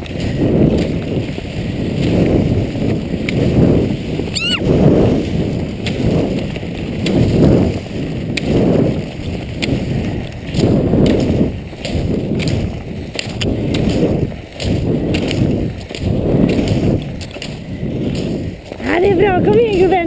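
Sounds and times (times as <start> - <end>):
skis swishing over snow: 0.0 - 20.0
wind rumble on microphone: 0.0 - 20.0.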